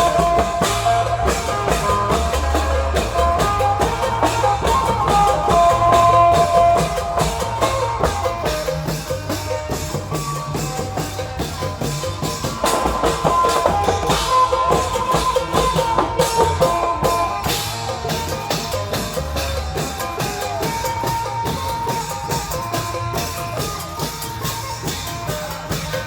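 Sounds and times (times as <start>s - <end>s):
drums pounding: 0.0s - 26.0s
shifting melody line: 0.0s - 26.0s.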